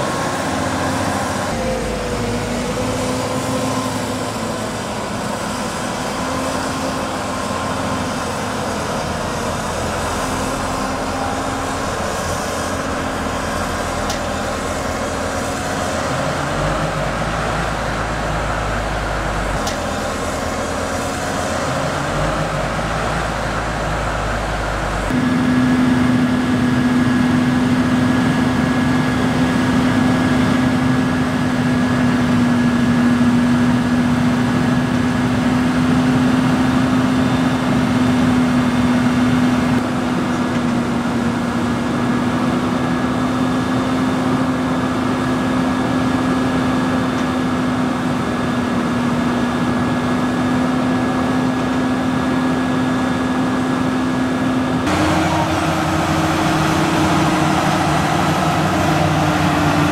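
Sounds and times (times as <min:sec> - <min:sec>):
engine with steady tones: 0:00.0 - 0:59.9
machinery noise: 0:00.0 - 0:59.9
tractor diesel engine humming: 0:00.0 - 0:59.9.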